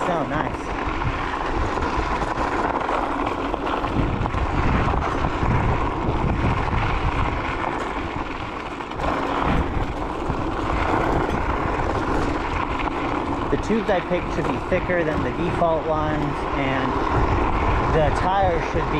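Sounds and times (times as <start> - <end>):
scooter tires on gravel: 0.0 - 18.9
wind rumble on microphone: 0.0 - 18.9.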